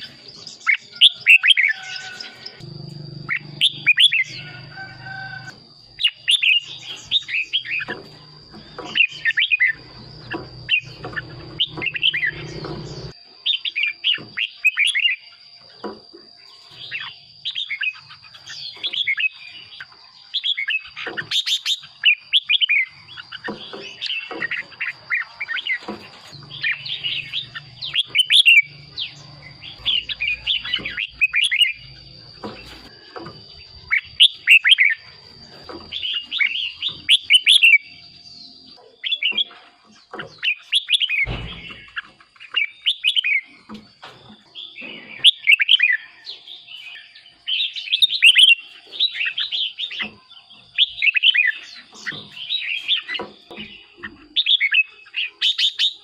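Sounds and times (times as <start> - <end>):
bird warbling song: 0.0 - 56.0.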